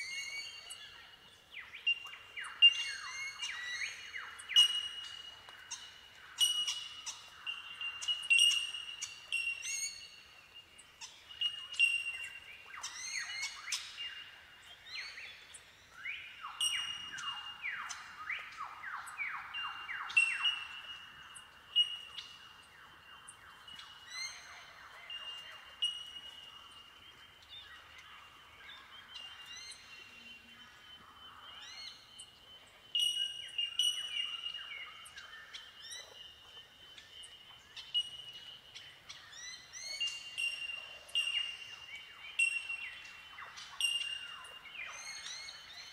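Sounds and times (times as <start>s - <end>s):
birds giving bell-like calls: 0.0s - 45.9s.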